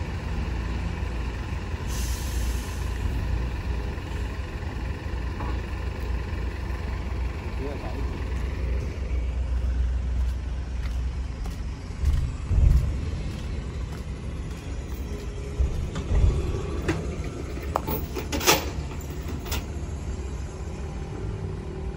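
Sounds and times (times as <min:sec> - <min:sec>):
truck engine idling: 0:00.0 - 0:21.9.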